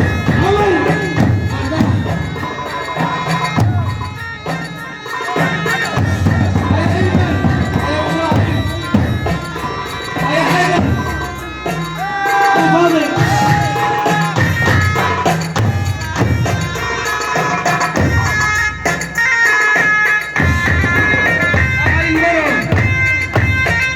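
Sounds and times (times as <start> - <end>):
regular drum beats: 0.0 - 23.9.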